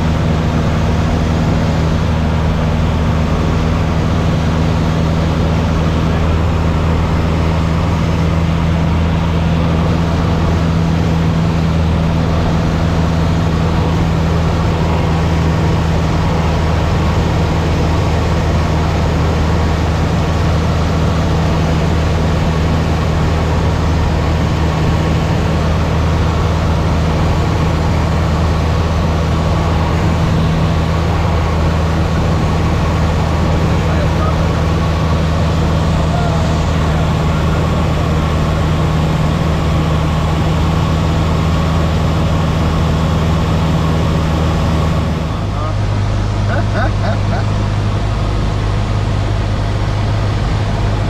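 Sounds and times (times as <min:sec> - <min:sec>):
airplane engine droning: 0:00.0 - 0:51.0.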